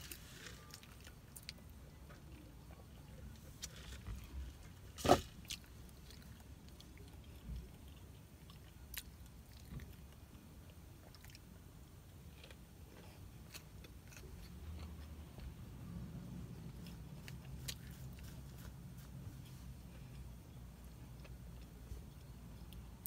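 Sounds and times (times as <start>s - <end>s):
faint chewing: 0.0s - 11.5s, 12.2s - 15.6s, 16.5s - 23.0s.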